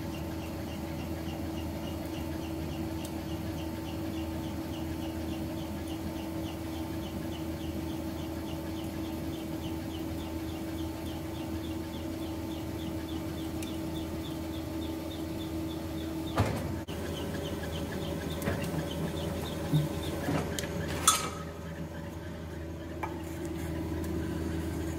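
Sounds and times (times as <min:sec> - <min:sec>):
workshop equipment droning: 0:00.0 - 0:24.9.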